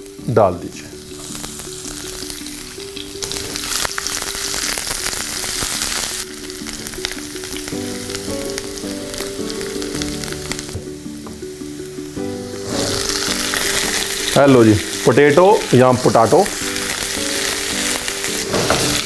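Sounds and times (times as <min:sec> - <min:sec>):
food sizzling in hot oil: 0:00.0 - 0:19.0
soft background music: 0:00.0 - 0:19.0.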